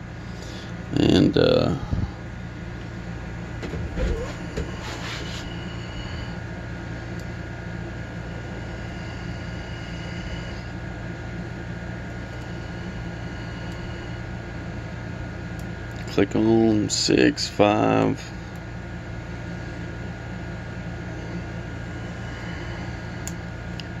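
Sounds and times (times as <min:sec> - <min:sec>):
mechanical background hum: 0:00.0 - 0:24.0.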